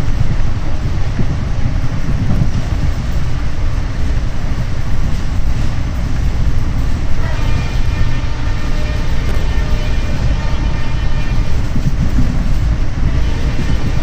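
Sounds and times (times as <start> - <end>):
diesel train rumbling: 0.0 - 14.0.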